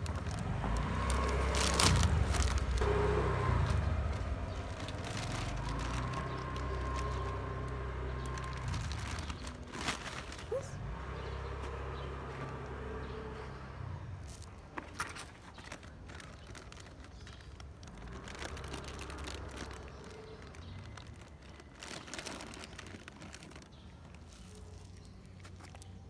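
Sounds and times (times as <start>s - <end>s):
cat crunching dry kibble: 0.0s - 10.6s, 14.2s - 26.0s.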